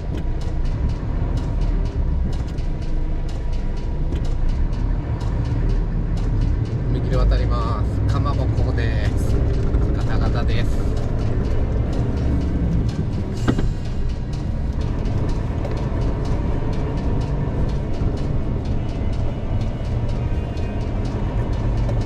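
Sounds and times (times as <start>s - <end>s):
truck rumbling with rattling: 0.0s - 22.0s.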